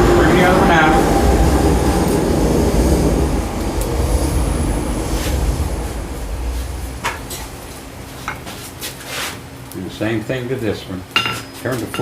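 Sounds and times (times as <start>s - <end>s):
forge rumble and hiss: 0.0s - 11.1s.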